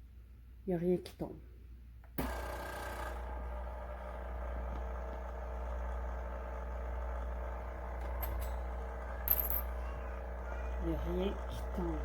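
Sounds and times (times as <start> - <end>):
espresso machine pump humming: 2.2 - 12.0.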